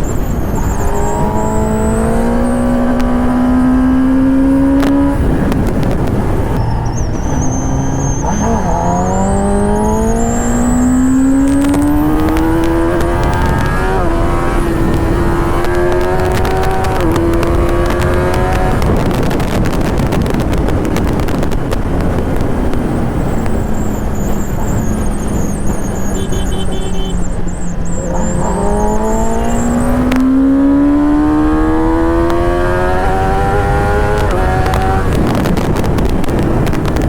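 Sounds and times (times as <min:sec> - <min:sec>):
motorcycle engine accelerating: 0:00.0 - 0:37.0
wind noise rushing: 0:00.0 - 0:37.0.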